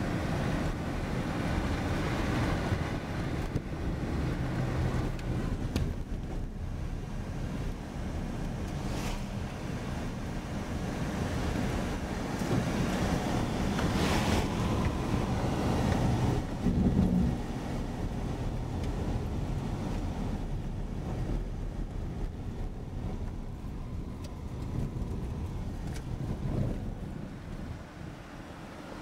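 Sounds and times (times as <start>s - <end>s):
wind on microphone: 0.0s - 28.5s
car road noise: 0.0s - 29.0s.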